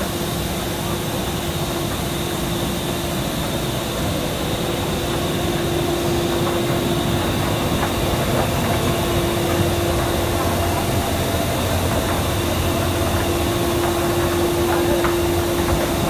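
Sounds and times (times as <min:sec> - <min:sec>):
machinery drone: 0:00.0 - 0:16.0.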